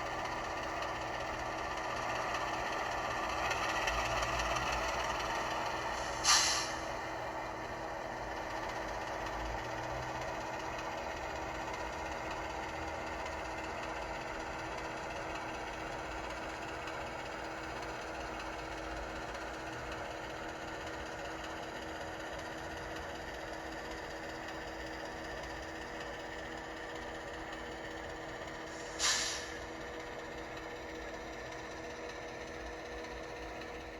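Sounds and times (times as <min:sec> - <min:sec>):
diesel locomotive engine through small speaker: 0:00.0 - 0:33.9.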